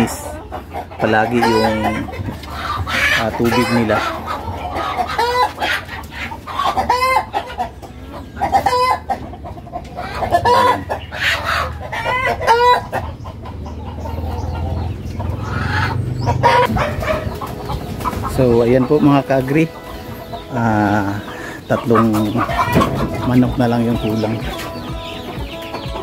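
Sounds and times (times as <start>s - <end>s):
chickens clucking and squawking: 0.0s - 26.0s.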